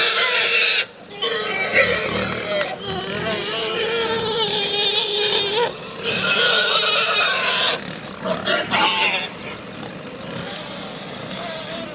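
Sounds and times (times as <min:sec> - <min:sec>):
wild boar squealing: 0:00.0 - 0:11.9.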